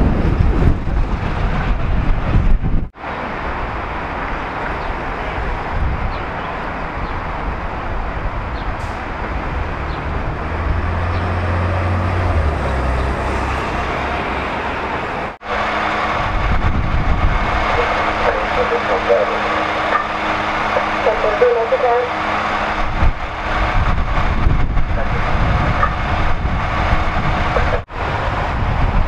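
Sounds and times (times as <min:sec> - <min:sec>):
cars and heavy vehicles passing: 0:00.0 - 0:29.0.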